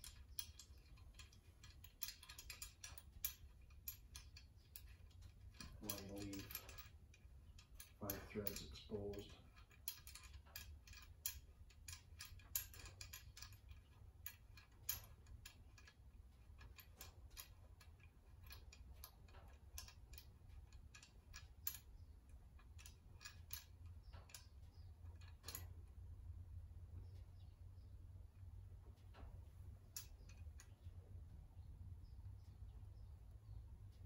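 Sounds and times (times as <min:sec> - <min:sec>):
small metallic clicks: 0:00.0 - 0:34.0.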